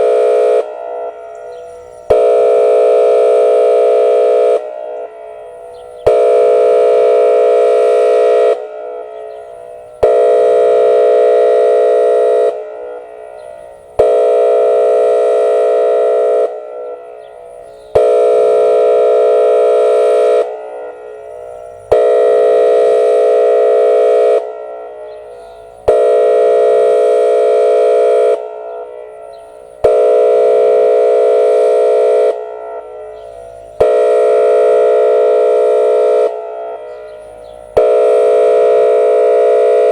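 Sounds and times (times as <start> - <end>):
warning siren horn blasts: 0.0 - 39.9.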